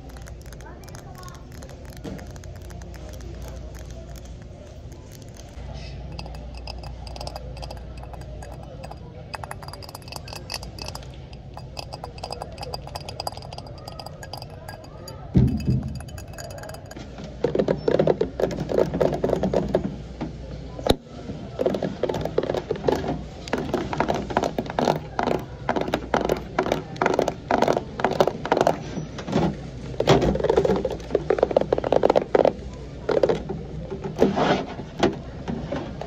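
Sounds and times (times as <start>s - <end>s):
fingernails tapping and scratching: 0.0s - 19.9s, 21.6s - 29.4s, 30.1s - 34.6s.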